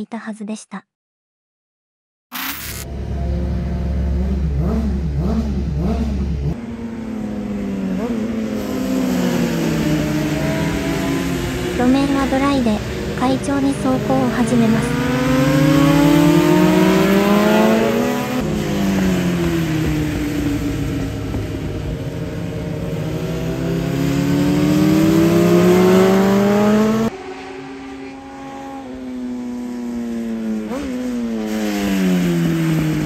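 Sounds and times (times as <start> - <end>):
motorcycle engine accelerating: 2.3 - 33.0.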